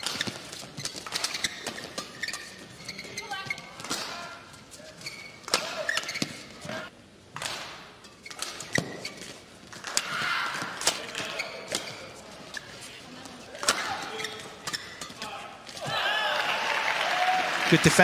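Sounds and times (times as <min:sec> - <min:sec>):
court shoes squeaking: 0:00.0 - 0:16.0.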